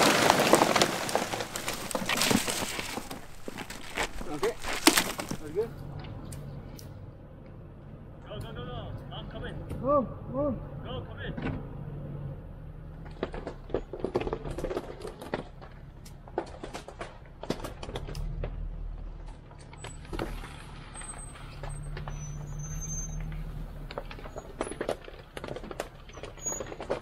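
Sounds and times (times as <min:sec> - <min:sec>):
vehicle engine running low: 0:01.2 - 0:27.0.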